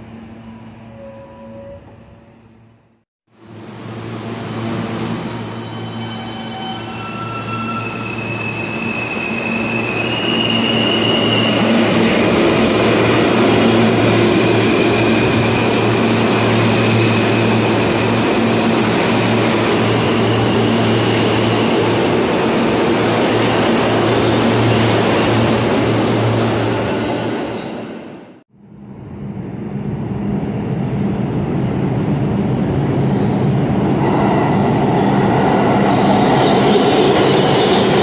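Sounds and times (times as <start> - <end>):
subway train wheels rumbling on rail: 0.0 - 38.0.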